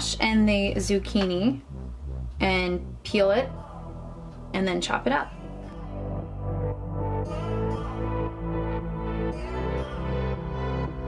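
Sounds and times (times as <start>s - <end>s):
electronic instrumental music: 0.0s - 11.0s.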